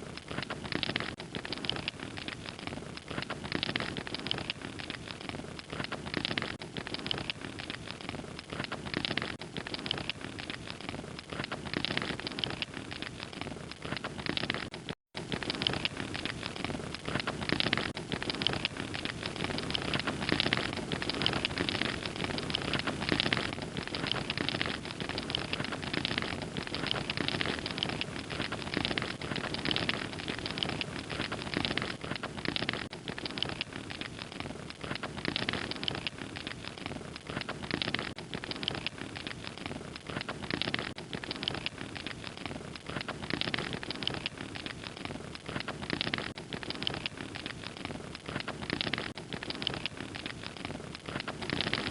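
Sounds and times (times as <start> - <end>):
fire crackling: 0.0 - 51.9.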